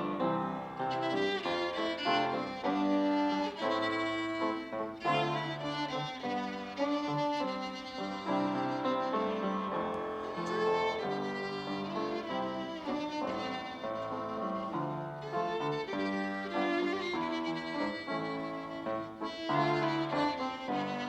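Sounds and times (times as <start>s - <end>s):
instrumental accompaniment: 0.0s - 21.0s
violin melody: 0.0s - 21.0s.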